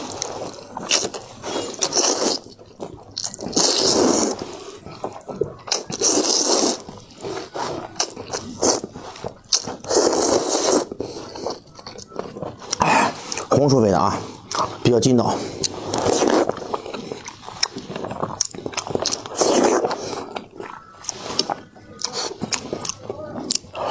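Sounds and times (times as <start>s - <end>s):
person slurping noodles: 0.0s - 23.9s.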